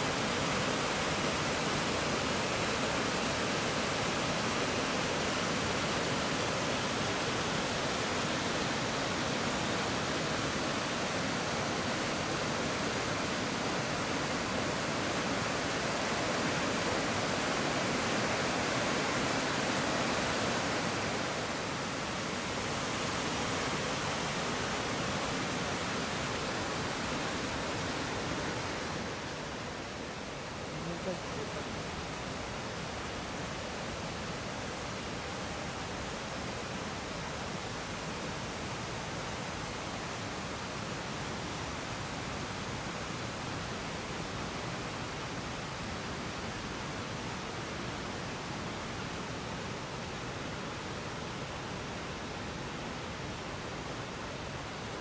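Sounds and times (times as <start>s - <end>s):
water rushing over cascades: 0.0s - 55.0s.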